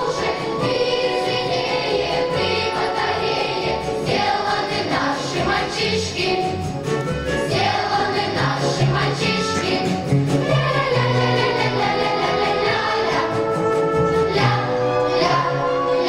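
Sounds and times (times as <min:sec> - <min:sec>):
children's choir singing: 0:00.0 - 0:16.0
instrumental accompaniment: 0:00.0 - 0:16.0.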